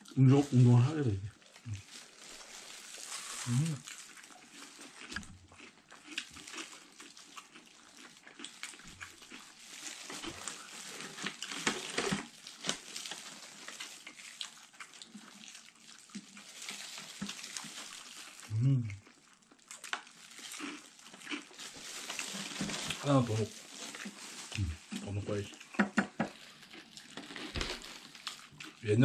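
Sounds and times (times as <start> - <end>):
chewing crunchy fried food: 0.0 - 29.0.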